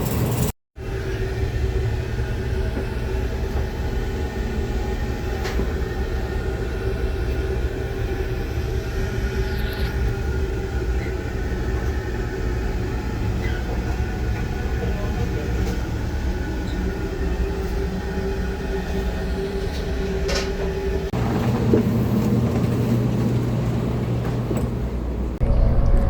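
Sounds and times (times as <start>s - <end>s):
train running with low rumble: 0.0s - 26.0s.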